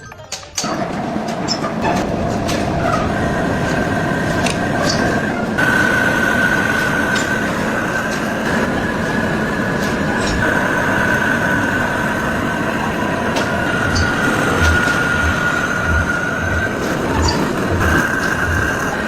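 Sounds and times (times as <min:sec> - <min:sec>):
lathe rumbling: 0:00.6 - 0:19.0.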